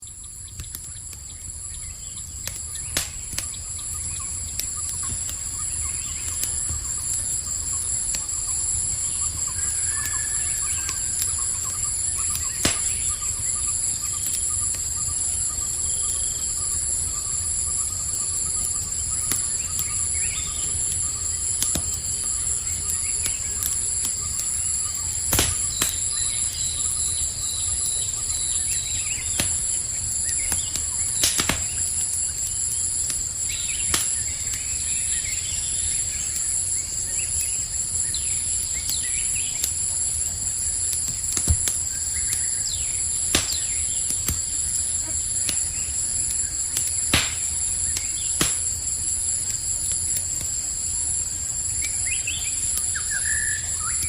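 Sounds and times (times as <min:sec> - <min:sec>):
campfire crackling and popping: 0:00.0 - 0:54.0
crickets trilling: 0:00.0 - 0:54.0.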